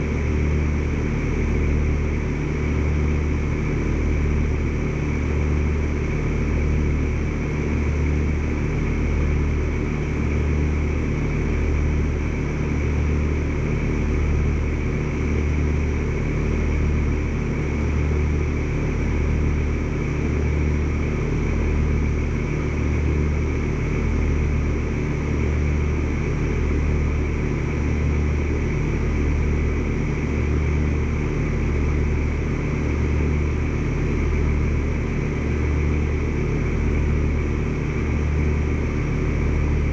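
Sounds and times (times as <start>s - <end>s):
heat pump humming and throbbing: 0.0s - 39.9s.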